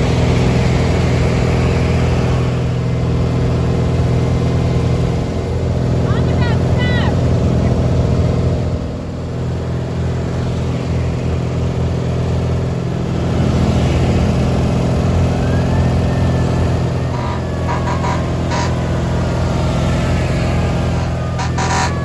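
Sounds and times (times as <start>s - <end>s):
garden tractor engine running: 0.0s - 22.0s.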